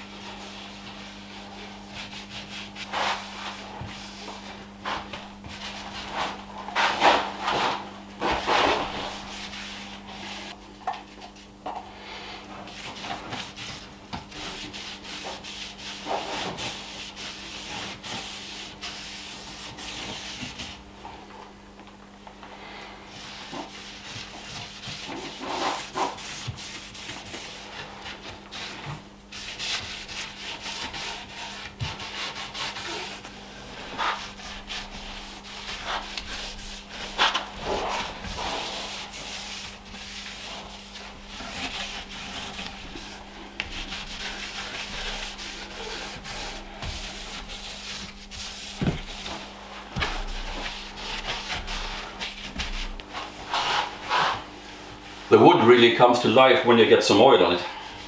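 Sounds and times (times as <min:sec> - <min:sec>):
steady low hum: 0:00.0 - 0:58.0
hand rubbing wood: 0:00.4 - 0:10.6, 0:12.5 - 0:21.3, 0:23.2 - 0:55.0.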